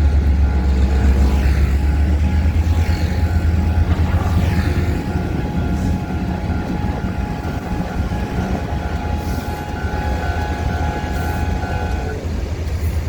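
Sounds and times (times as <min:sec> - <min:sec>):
steady low drone: 0:00.0 - 0:12.2
train passing: 0:00.0 - 0:13.0.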